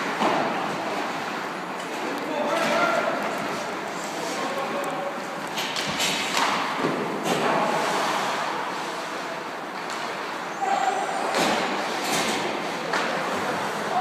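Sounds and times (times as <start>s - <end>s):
background din in large hall: 0.0s - 14.0s.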